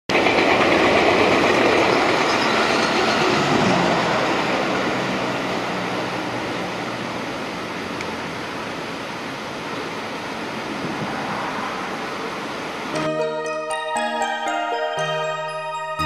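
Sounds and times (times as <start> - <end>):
electric train wheels on rails: 0.1 - 14.5.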